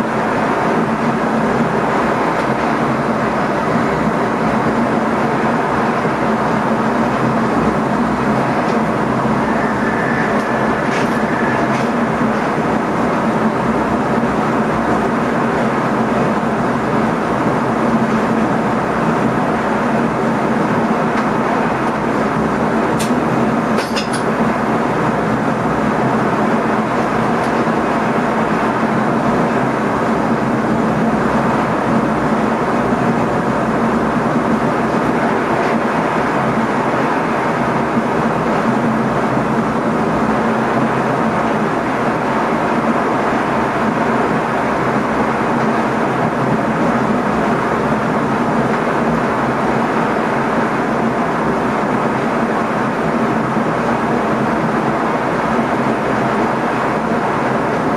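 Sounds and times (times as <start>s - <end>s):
electric train rumble and rush: 0.0s - 57.9s.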